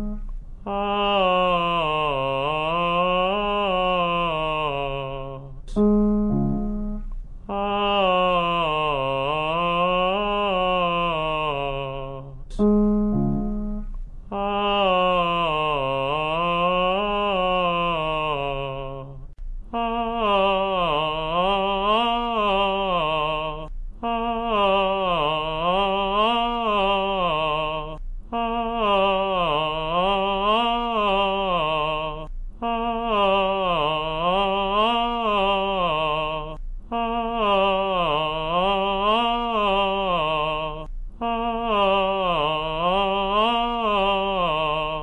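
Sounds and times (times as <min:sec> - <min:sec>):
person singing vocal exercise: 0:00.0 - 0:45.0.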